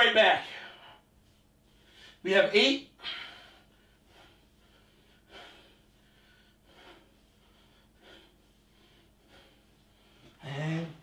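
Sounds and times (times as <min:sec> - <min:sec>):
man breathing: 0:00.4 - 0:02.2, 0:02.9 - 0:11.0.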